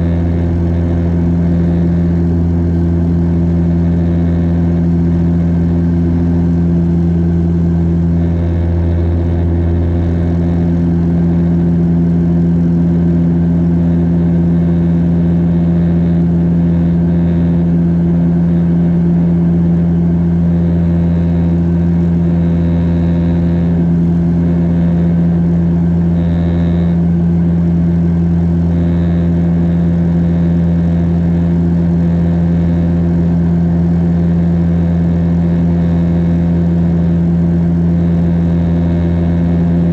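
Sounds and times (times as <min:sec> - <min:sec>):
turboprop engines droning in cabin: 0:00.0 - 0:39.9.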